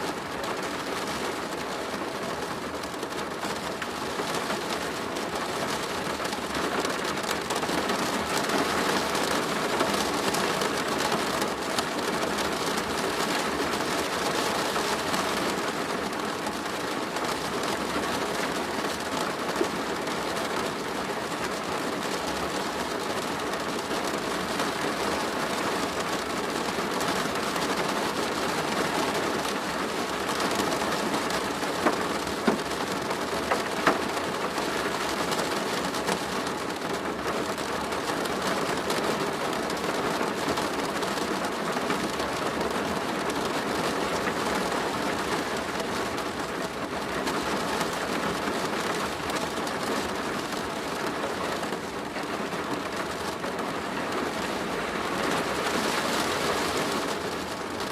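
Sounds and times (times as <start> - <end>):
rain on a plastic roof: 0.0 - 57.9.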